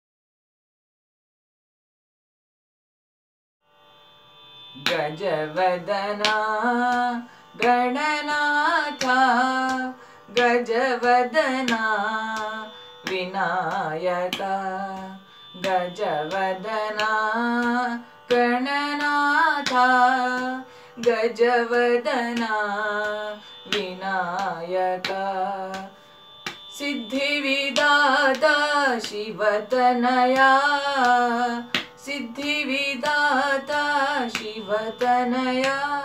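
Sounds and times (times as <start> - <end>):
steady drone: 4.7 - 36.0
boy singing devotional song: 4.8 - 36.0.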